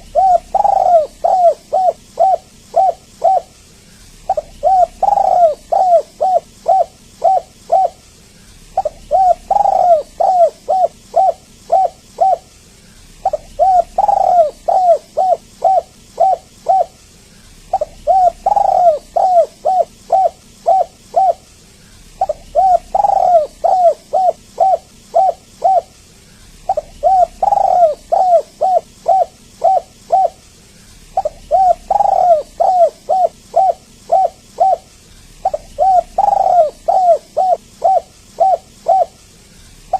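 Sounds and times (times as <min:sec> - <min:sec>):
dove cooing: 0:00.0 - 0:17.0, 0:17.6 - 0:39.9.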